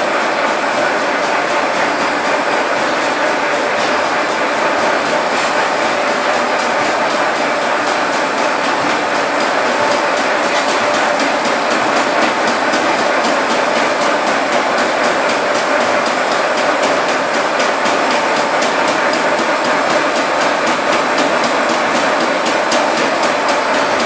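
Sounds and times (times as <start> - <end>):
machines running with fast clatter: 0.0 - 24.0.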